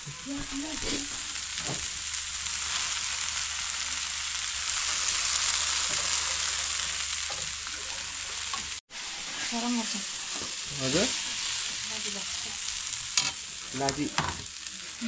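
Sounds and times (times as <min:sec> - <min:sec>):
noodles sizzling in pan: 0:00.0 - 0:15.0.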